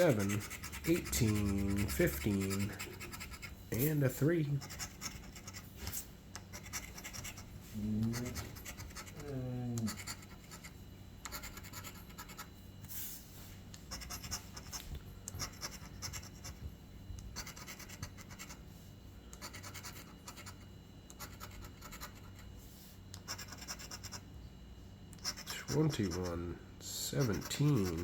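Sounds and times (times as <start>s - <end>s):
lottery ticket being scratched: 0.0s - 12.6s, 13.8s - 16.6s, 17.4s - 18.6s, 19.3s - 22.5s, 23.2s - 24.3s, 25.2s - 28.0s.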